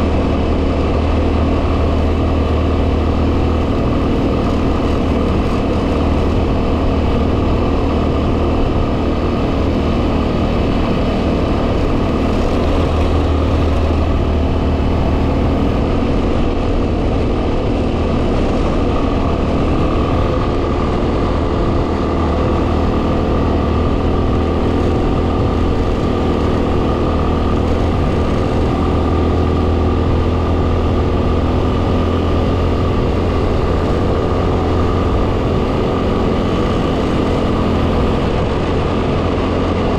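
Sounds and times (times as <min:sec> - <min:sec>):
motorcycle engine cruising: 0:00.0 - 0:39.9
wind buffeting microphone: 0:01.8 - 0:39.9.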